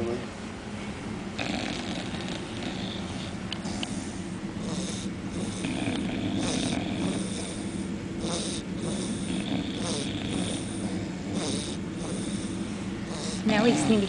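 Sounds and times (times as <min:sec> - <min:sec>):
steady low rumble: 0:00.0 - 0:14.0
pet snoring: 0:01.3 - 0:14.0.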